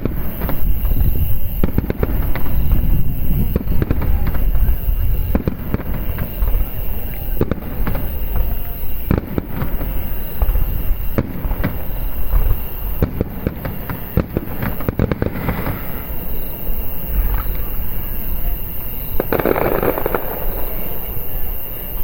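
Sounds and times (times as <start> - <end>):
fireworks booming: 0.0 - 22.0
fireworks crackling: 0.0 - 22.0.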